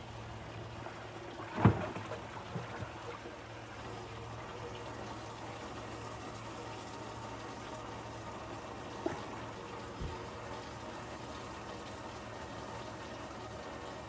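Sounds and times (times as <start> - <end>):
low pump hum: 0.0 - 14.0
water trickling and splashing: 0.0 - 14.0.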